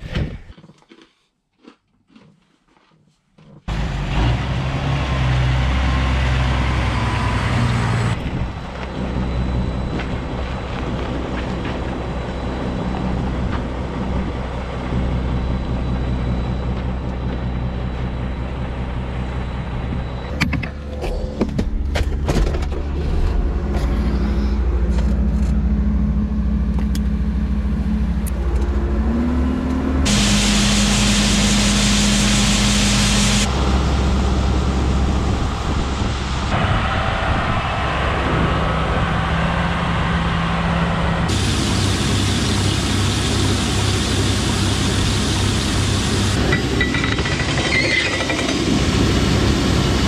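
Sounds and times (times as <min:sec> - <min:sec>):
diesel tractor engines droning: 0:03.7 - 0:50.0.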